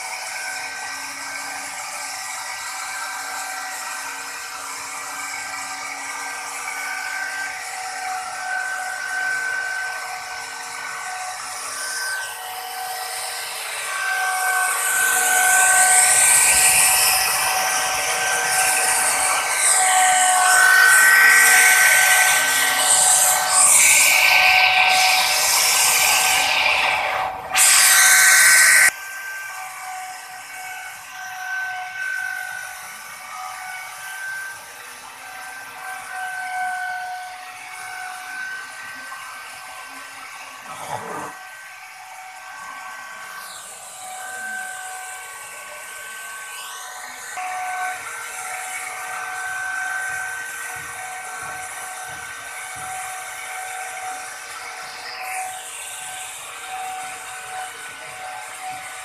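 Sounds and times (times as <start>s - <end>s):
router bit cutting wood: 0.0s - 59.0s
router motor whining: 0.0s - 59.0s.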